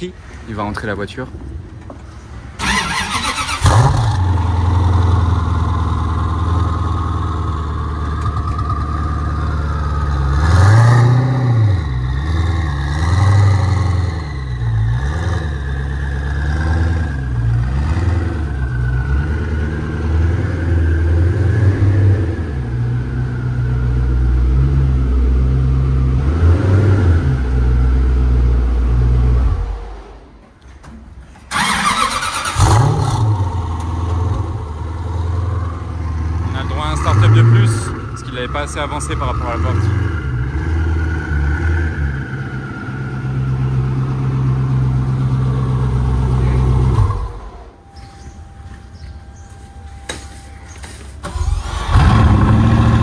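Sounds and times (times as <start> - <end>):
car engine idling and revving: 1.4 - 30.4, 31.5 - 53.0.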